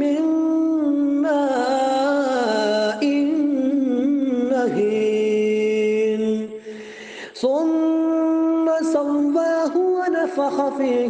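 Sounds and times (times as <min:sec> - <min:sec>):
man reciting melodic chant: 0:00.0 - 0:11.0.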